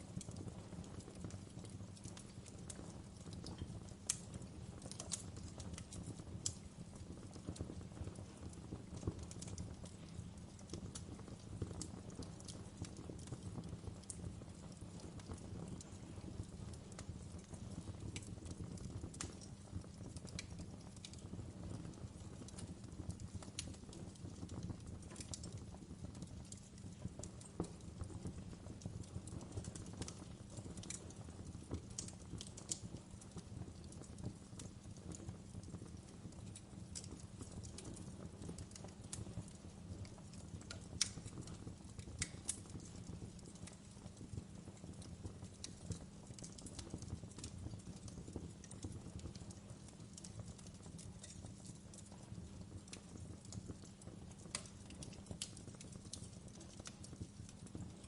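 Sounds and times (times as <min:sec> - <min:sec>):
crackles and pops of burning wood: 0:00.0 - 0:58.0
wood fire burning: 0:00.0 - 0:58.0.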